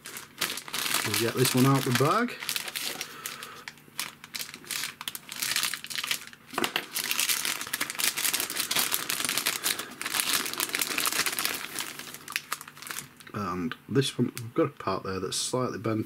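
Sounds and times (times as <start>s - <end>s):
plastic bag crinkling: 0.0s - 13.3s.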